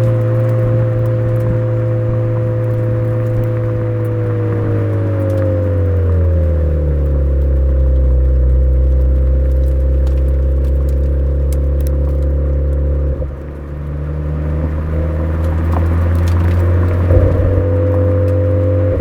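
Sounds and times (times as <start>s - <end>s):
car exhaust tone: 0.0s - 19.0s.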